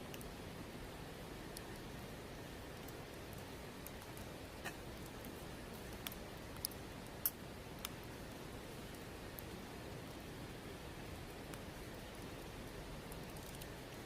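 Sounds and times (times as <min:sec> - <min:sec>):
campfire hissing and popping: 0:00.0 - 0:14.0.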